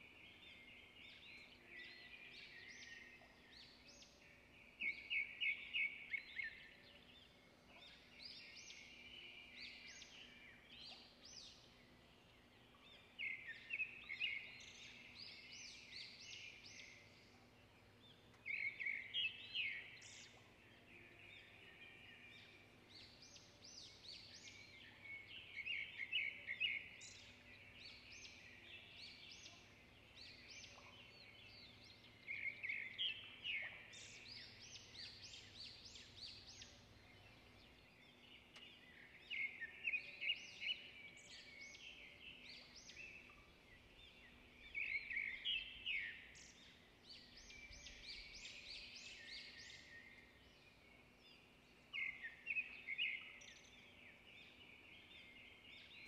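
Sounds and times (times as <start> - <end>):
birds chirping: 0.1 - 56.0.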